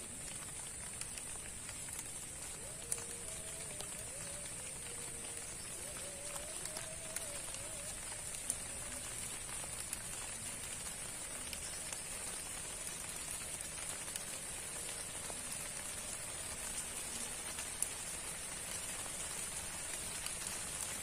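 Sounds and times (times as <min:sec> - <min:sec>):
light rain on grass and pond: 0:00.0 - 0:21.0.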